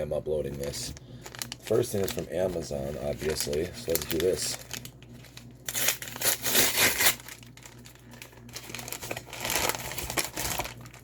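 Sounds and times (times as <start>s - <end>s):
packaging crinkling and tearing: 0.3s - 11.0s.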